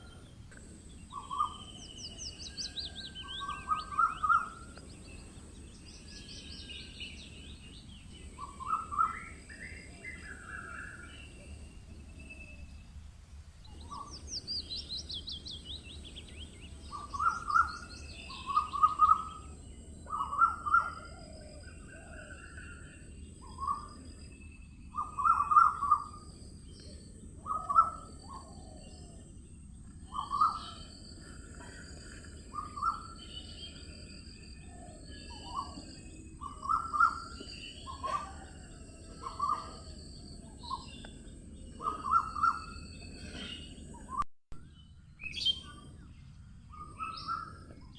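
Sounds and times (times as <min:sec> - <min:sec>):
birds singing and calling: 0:00.0 - 0:12.8, 0:13.6 - 0:47.9.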